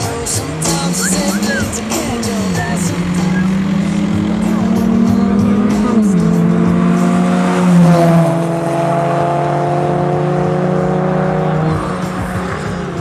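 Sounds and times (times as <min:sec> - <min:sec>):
sustained low chords: 0:00.2 - 0:13.0.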